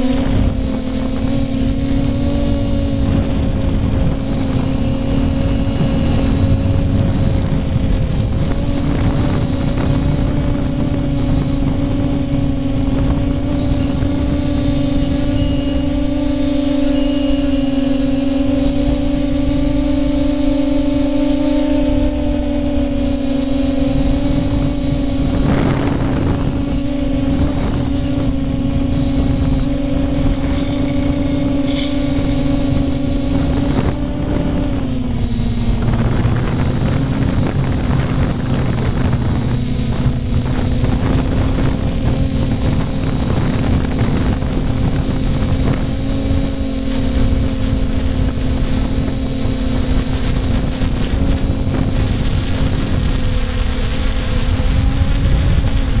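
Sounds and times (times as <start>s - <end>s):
drone motors humming: 0.0s - 56.0s
wind on microphone: 0.0s - 56.0s.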